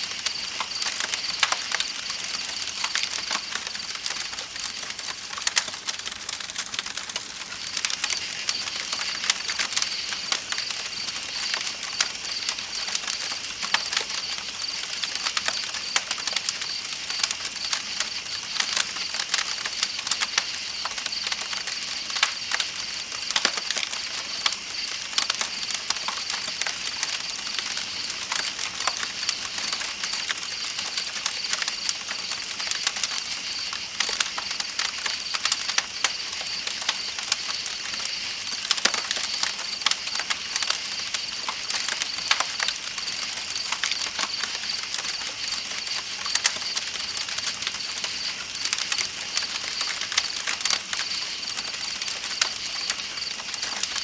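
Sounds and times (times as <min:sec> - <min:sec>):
night insects chirping: 0:00.0 - 0:05.6, 0:07.4 - 0:54.0
campfire crackling and popping: 0:00.0 - 0:54.0.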